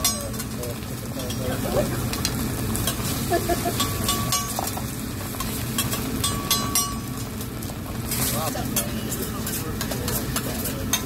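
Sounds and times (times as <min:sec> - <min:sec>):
eggs sizzling on griddle: 0:00.0 - 0:11.0.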